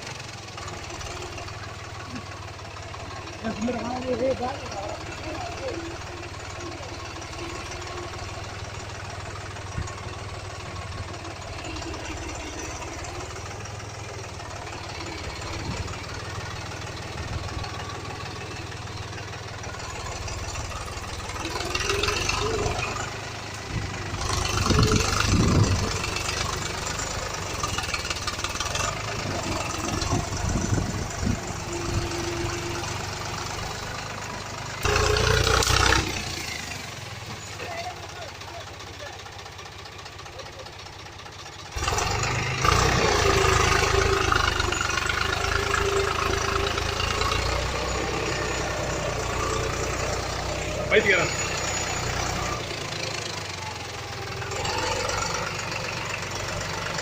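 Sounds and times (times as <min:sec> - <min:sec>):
tractor engine knocking: 0:00.0 - 0:57.0.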